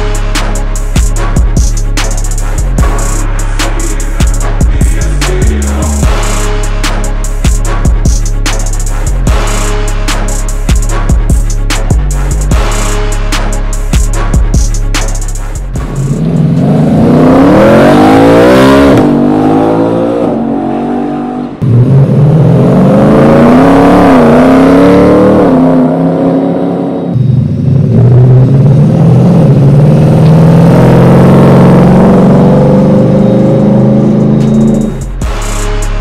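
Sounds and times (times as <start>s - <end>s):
engine accelerating hard: 0.0s - 36.0s.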